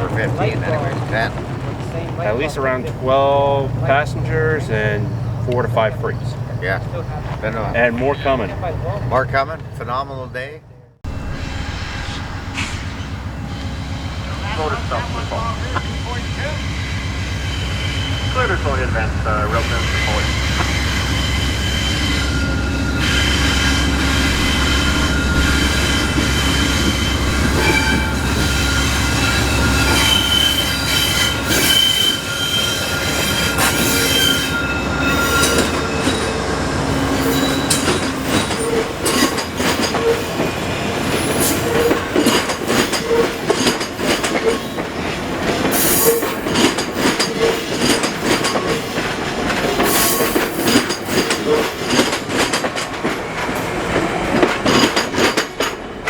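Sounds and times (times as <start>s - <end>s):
wheels clicking over rail joints: 0.0s - 10.5s, 13.6s - 56.0s
wheels squealing on rails: 0.0s - 10.5s, 11.1s - 56.0s
locomotive engine rumble: 0.0s - 56.0s.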